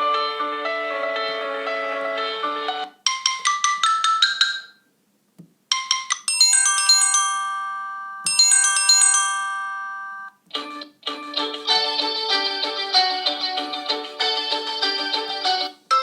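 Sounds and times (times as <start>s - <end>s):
bell-like ringtone melody: 0.0s - 4.8s, 5.7s - 16.0s.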